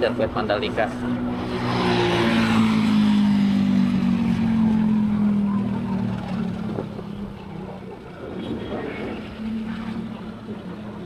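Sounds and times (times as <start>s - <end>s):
vehicle engine humming: 0.0s - 11.0s
wind and road noise: 0.0s - 11.0s.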